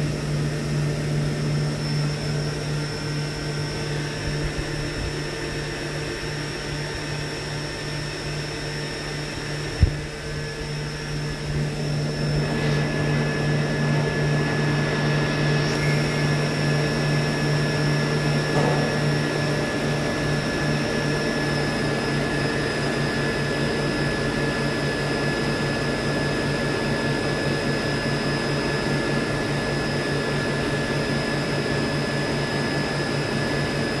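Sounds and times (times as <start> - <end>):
machine hum and spindle whine: 0.0 - 34.0.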